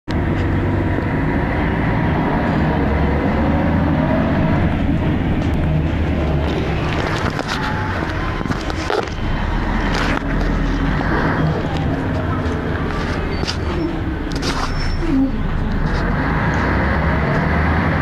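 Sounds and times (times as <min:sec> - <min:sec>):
bus diesel engine running: 0:00.1 - 0:18.0
bus interior clicks and rattles: 0:00.1 - 0:18.0
rising engine whine: 0:00.1 - 0:18.0.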